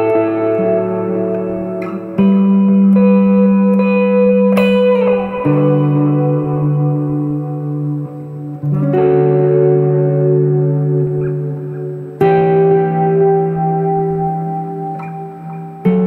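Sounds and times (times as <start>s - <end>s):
electric guitar chords with reverb: 0.0s - 16.0s.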